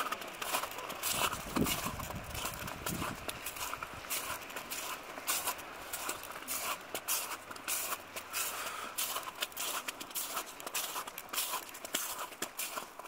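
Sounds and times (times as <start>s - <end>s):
footsteps in snow: 0.1s - 13.0s.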